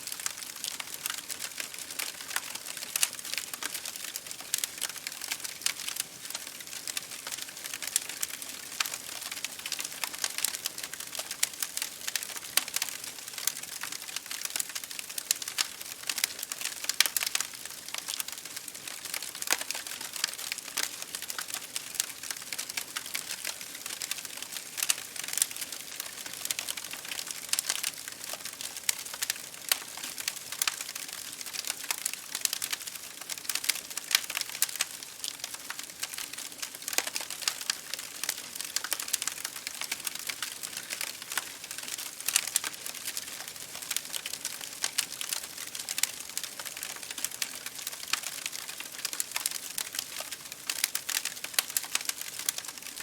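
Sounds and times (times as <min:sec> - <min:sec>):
rain against a window: 0:00.0 - 0:53.0
wood fire crackling: 0:00.0 - 0:53.0.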